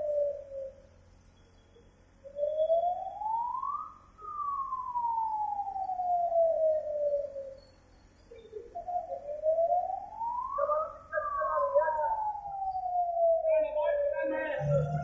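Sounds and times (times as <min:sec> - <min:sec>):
siren wailing: 0:00.0 - 0:00.9, 0:02.3 - 0:15.0.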